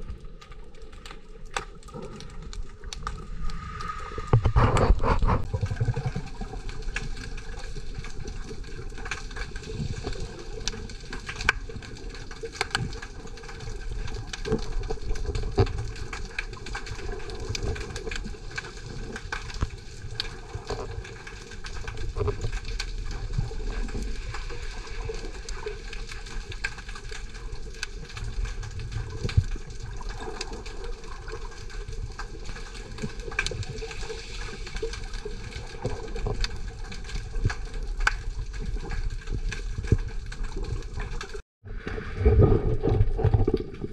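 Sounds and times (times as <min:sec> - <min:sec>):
sharp clicks and crackles: 0:00.0 - 0:43.9
muffled underwater rush: 0:01.8 - 0:12.4, 0:13.1 - 0:43.9.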